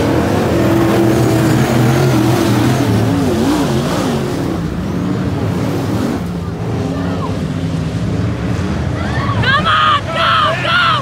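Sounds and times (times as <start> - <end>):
race car engines running hard: 0.0 - 11.0.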